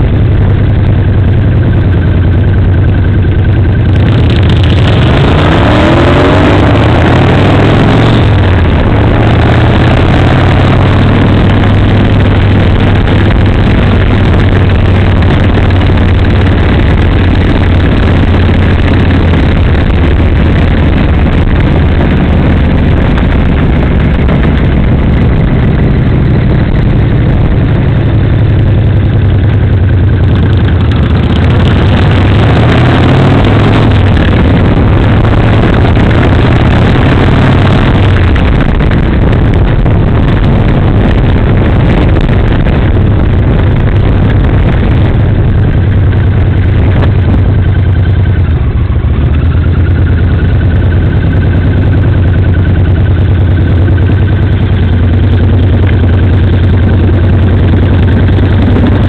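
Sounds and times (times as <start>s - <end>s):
motorcycle engine running: 0.0s - 59.0s
rushing noise: 0.0s - 59.0s.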